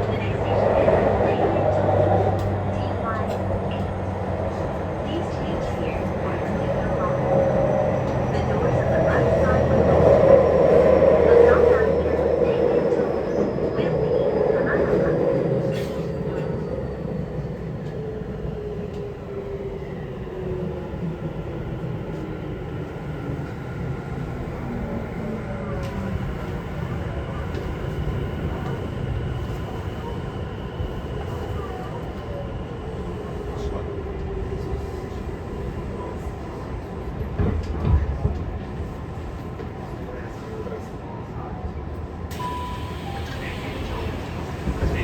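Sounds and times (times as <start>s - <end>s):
wheel and rail rumble: 0.0s - 45.0s.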